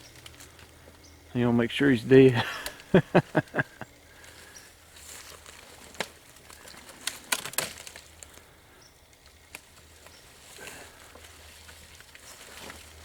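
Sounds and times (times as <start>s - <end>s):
twigs snapping: 0.0s - 1.0s, 2.5s - 8.5s, 9.1s - 13.0s
dry leaves rustling: 0.0s - 13.0s.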